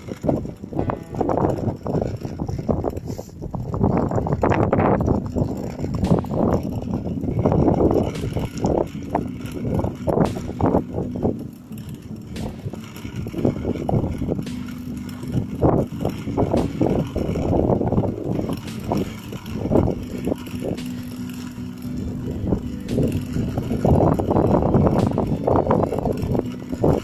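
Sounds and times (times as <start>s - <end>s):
rumble of travel on gravel: 0.0s - 27.0s
short bumps: 0.0s - 27.0s
wind buffeting microphone: 0.0s - 27.0s.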